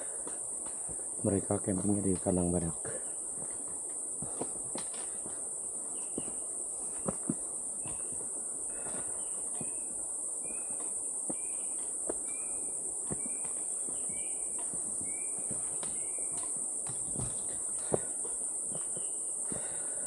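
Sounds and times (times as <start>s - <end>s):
forest insects droning: 0.0s - 20.0s
footsteps on rocky trail: 3.1s - 9.9s, 10.6s - 20.0s.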